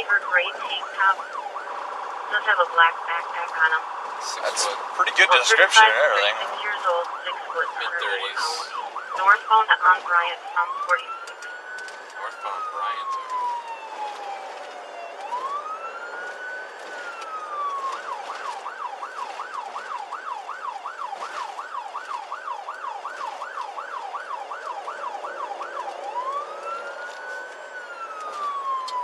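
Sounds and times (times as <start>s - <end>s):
police siren wailing and yelping: 0.0s - 29.0s.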